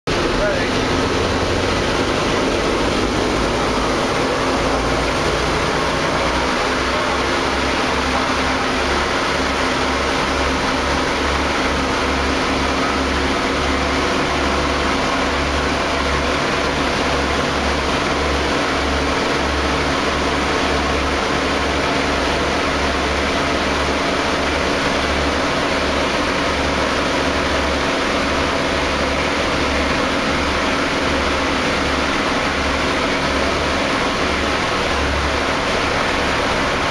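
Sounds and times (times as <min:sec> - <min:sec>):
radial engines droning: 0:00.1 - 0:36.9.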